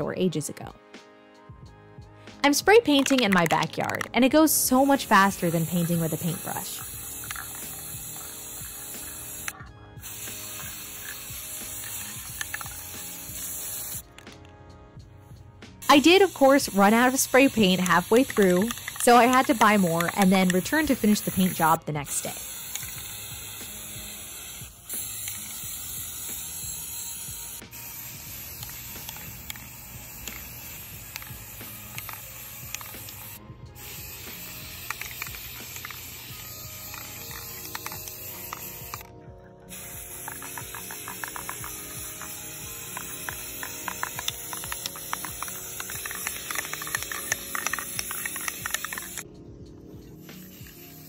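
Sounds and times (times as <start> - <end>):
background music: 0.0 - 51.0
aerosol spray can hissing: 2.4 - 14.4, 15.8 - 39.1, 39.7 - 49.3, 50.1 - 51.0.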